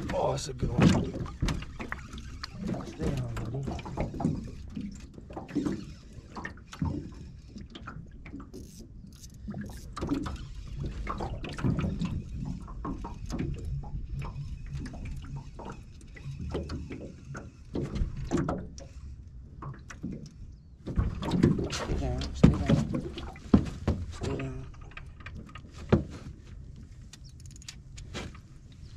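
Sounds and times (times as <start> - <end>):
small knocks and splashes: 0.0 - 28.9
water lapping against boat hull: 0.0 - 28.9.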